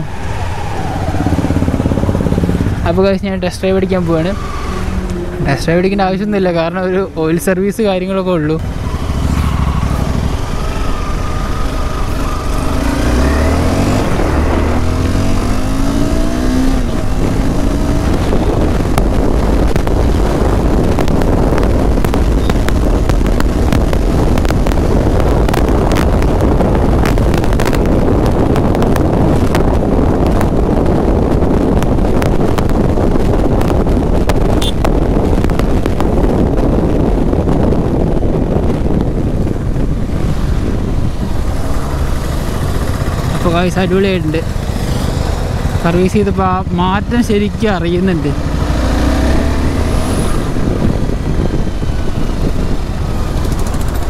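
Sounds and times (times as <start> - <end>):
motorcycle engine accelerating: 0.0 - 6.4, 8.6 - 54.0
wind noise while riding: 0.0 - 54.0.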